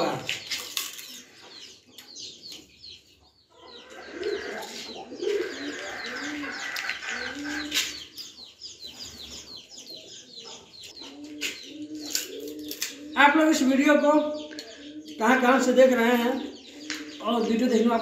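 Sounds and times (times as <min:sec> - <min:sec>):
pigeons cooing: 0:00.0 - 0:18.0
small birds chirping: 0:00.0 - 0:18.0.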